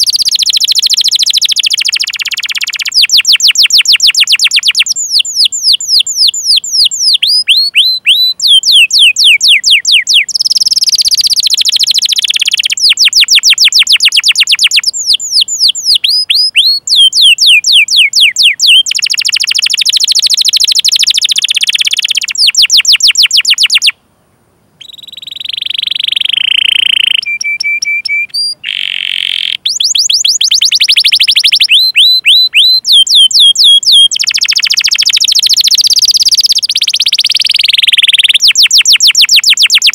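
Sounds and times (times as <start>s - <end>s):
canary singing: 0.0s - 24.0s, 24.8s - 39.9s.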